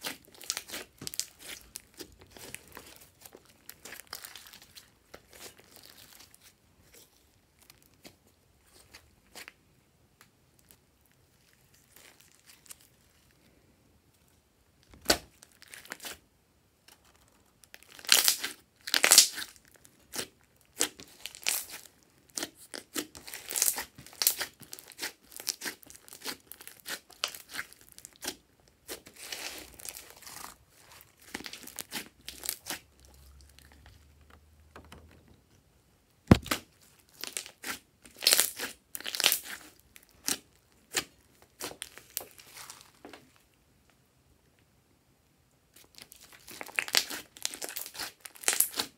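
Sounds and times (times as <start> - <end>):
slime crackling and squelching: 0.0 - 9.6, 10.6 - 13.4, 14.8 - 16.2, 16.9 - 34.3, 36.3 - 43.5, 45.7 - 48.9.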